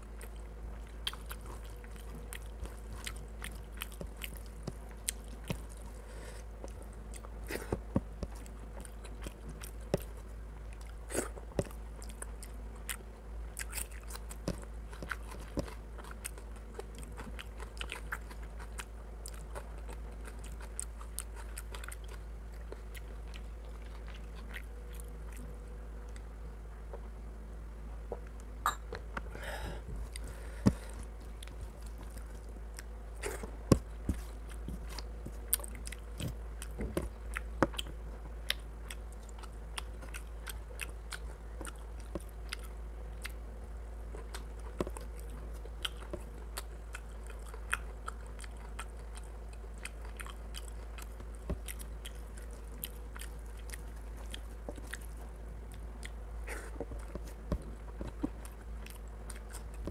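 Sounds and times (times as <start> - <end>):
person chewing food: 0.0 - 26.3, 28.1 - 59.9
steady low hum: 0.0 - 59.9.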